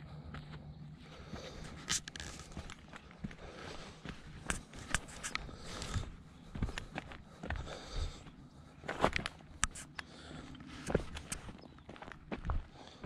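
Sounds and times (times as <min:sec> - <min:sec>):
footsteps crunching on gravel: 0:00.2 - 0:09.9, 0:10.7 - 0:13.0.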